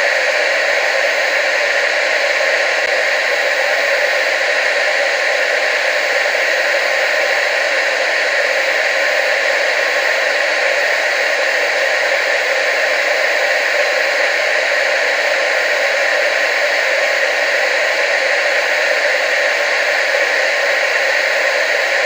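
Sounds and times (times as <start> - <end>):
television static hiss: 0.0 - 22.0.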